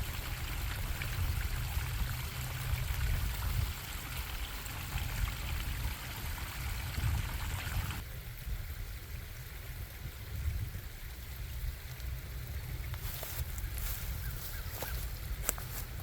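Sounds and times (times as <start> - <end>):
stream water running and bubbling: 0.0 - 16.0.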